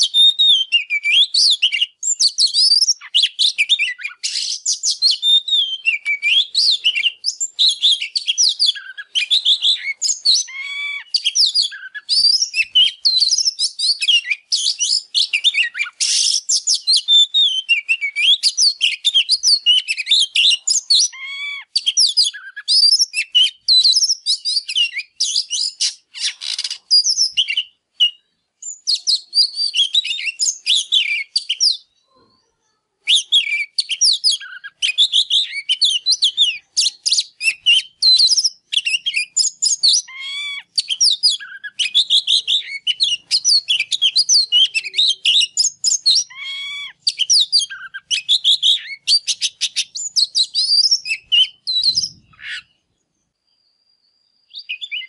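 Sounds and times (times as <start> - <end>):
bird singing whistled song: 0.0 - 32.1, 33.0 - 55.0.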